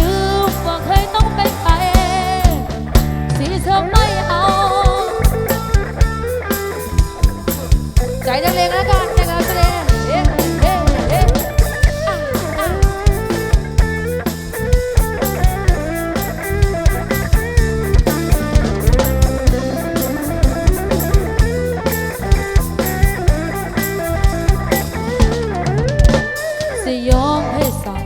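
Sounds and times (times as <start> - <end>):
bass line: 0.0 - 28.0
drum kit beat: 0.0 - 28.0
lead instrument melody: 4.1 - 26.7.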